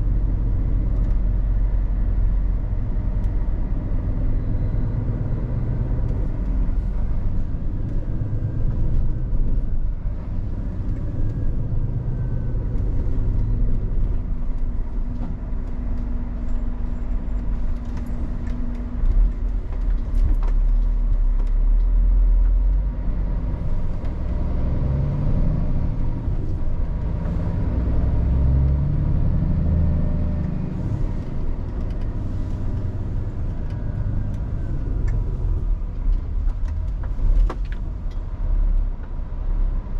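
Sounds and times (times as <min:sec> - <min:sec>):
truck diesel engine rumble: 0:00.0 - 0:39.9.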